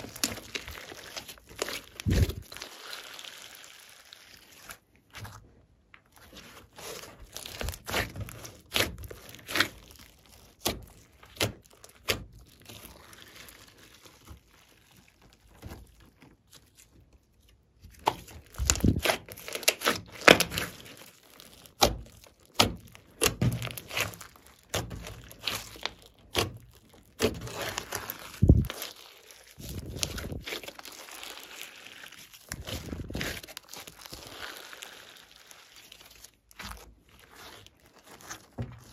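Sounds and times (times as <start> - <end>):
hands squeezing sticky slime: 0.0 - 38.9.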